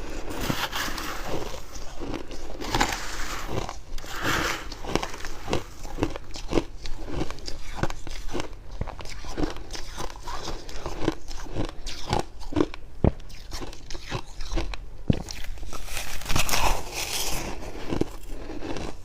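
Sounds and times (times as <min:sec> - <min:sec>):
biting and chewing frost crunches: 0:00.0 - 0:19.0.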